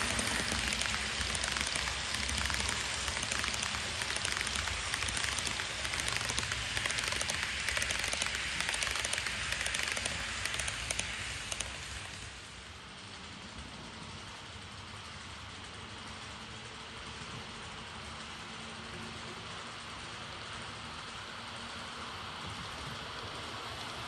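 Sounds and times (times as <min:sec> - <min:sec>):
model train wheels rattling: 0:00.0 - 0:24.0.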